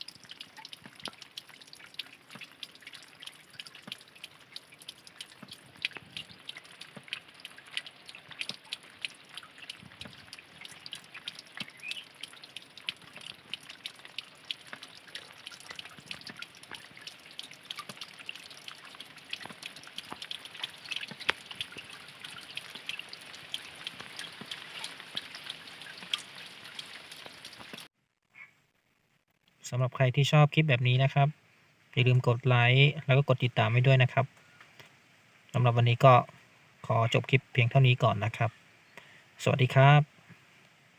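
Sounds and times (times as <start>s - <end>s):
water drips and splashes: 0.0s - 27.9s, 31.8s - 40.9s
water trickling down rocks: 0.0s - 27.9s, 32.0s - 40.8s.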